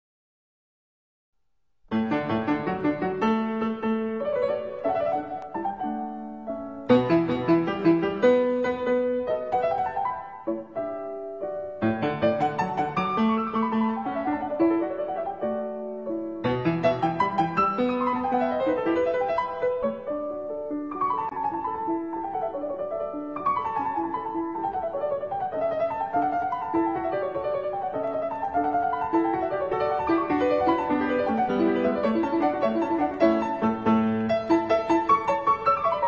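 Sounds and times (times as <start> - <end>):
piano music: 1.9 - 36.0.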